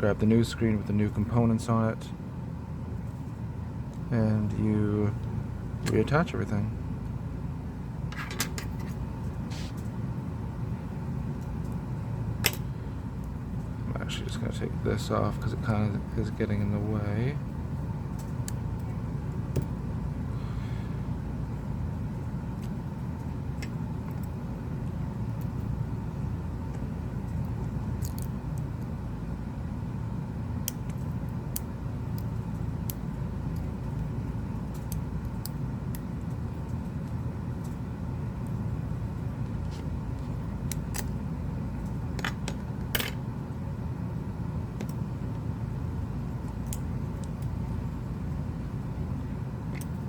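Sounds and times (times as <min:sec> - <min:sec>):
low background rumble: 0:00.0 - 0:50.0.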